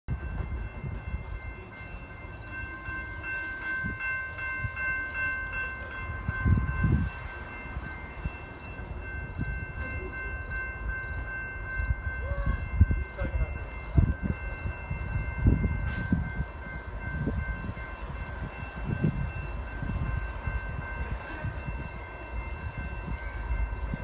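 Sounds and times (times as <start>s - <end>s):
crossing warning bells ringing: 0.1s - 24.0s
wind gust: 3.2s - 24.0s.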